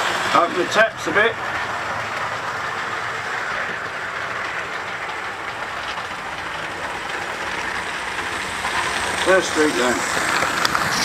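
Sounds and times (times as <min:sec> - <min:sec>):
model trains whirring: 0:00.0 - 0:11.0.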